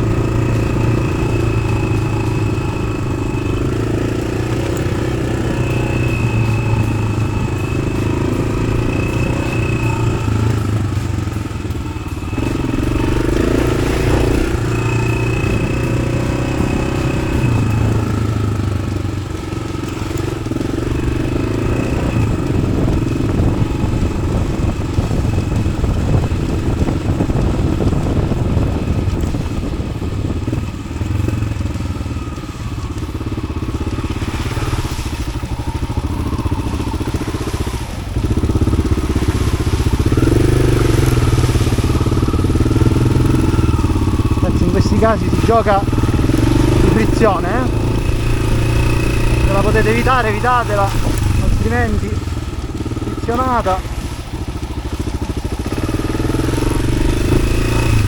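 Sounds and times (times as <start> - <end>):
motorcycle clattering over rough ground: 0.0 - 58.0
motorcycle engine revving: 0.0 - 58.0.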